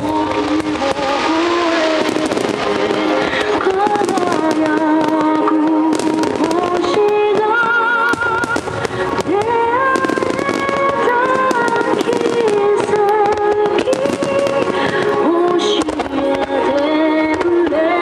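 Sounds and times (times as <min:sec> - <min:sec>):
fireworks bursting and crackling: 0:00.0 - 0:18.0
slow melodic music: 0:00.0 - 0:18.0.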